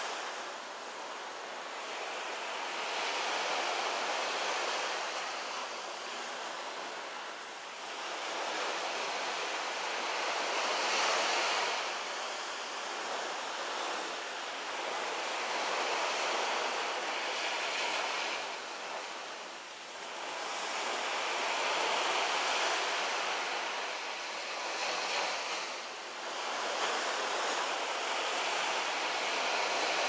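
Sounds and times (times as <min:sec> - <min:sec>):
waves washing on shore: 0:00.0 - 0:30.0.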